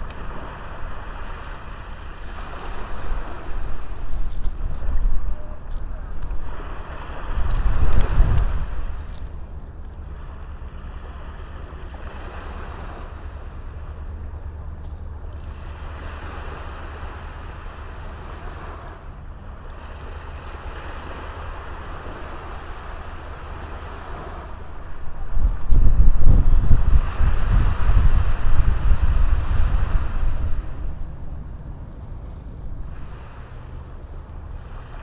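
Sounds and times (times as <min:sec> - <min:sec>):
waves washing onto beach: 0:00.0 - 0:35.0
wind rumble on microphone: 0:00.0 - 0:35.0.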